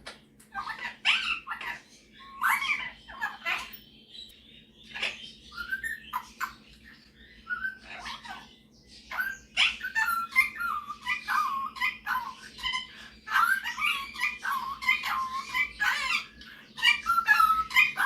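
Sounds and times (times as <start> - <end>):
parrot squawking and chirping: 0.4 - 18.0.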